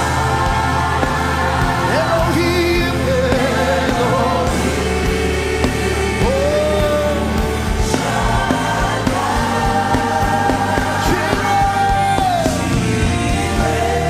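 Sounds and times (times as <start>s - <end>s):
band accompaniment: 0.0s - 14.0s
gospel choir singing: 0.0s - 14.0s.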